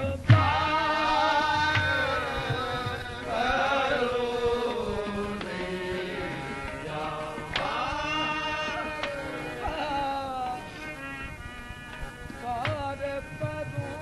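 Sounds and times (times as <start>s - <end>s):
man singing melismatic notes: 0.0s - 11.4s, 12.0s - 14.0s
harmonium drone: 0.0s - 14.0s.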